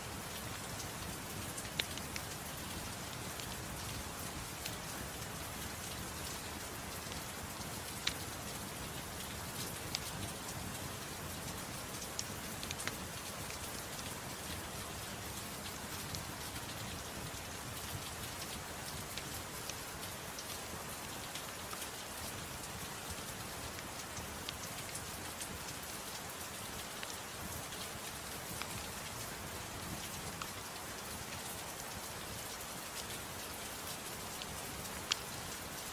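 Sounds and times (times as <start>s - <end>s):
gentle rain: 0.0s - 35.9s.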